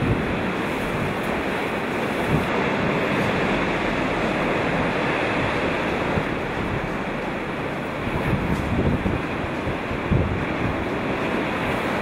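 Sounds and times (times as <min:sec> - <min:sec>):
storm waves breaking: 0:00.0 - 0:12.0
wind buffeting microphone: 0:00.0 - 0:12.0.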